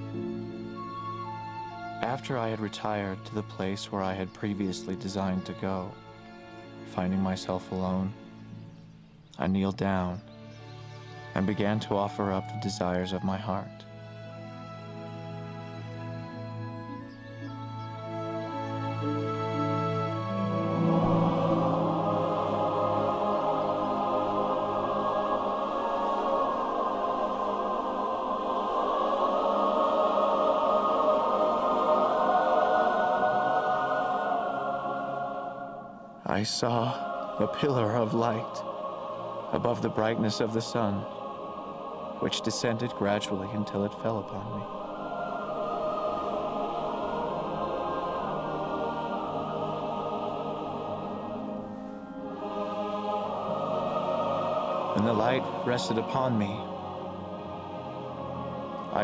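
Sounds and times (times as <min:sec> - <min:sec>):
wordless choir sustained chords: 0:00.0 - 0:59.0.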